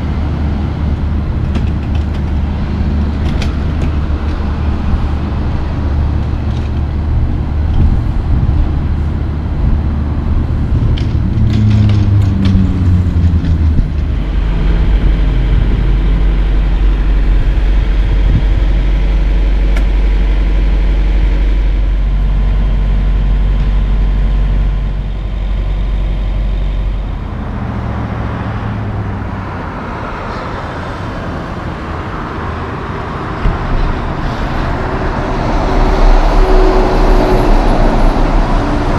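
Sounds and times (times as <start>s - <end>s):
diesel truck engine idling: 0.0s - 38.9s
road traffic: 0.0s - 38.9s.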